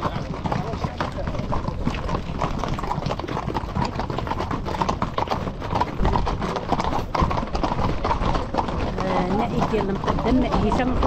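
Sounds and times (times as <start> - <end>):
horse hooves clip-clopping on road: 0.0 - 11.0.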